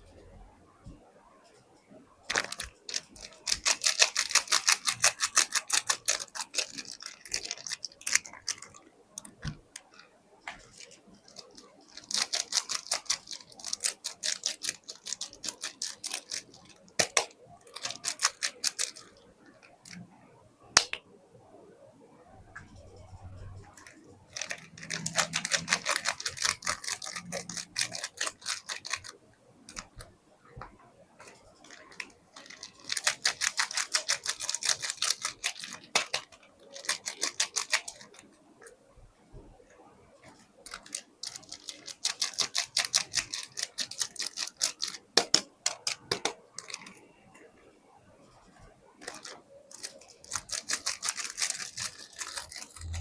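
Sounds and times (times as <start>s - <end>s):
packaging clicking and scratching: 2.3s - 20.0s, 23.6s - 30.1s, 31.2s - 38.4s, 40.2s - 47.1s, 48.6s - 53.0s.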